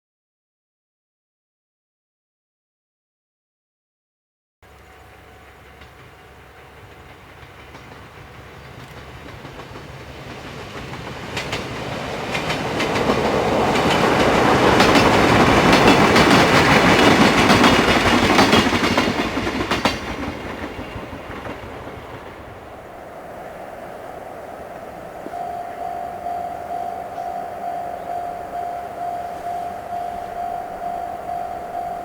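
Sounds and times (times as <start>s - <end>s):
train passing: 4.7s - 32.0s
wheels clacking over rail joints: 5.7s - 32.0s.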